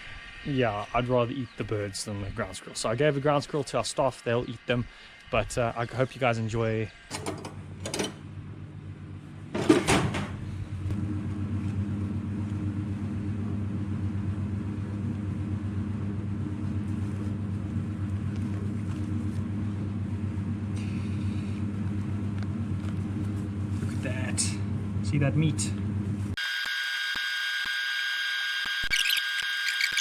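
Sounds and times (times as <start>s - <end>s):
low mechanical hum: 0.0s - 26.4s.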